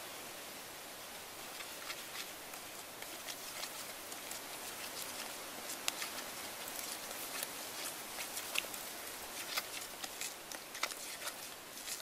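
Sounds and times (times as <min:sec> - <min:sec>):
steady hiss: 0:00.0 - 0:12.0
spoon scraping plastic bowl: 0:01.5 - 0:12.0.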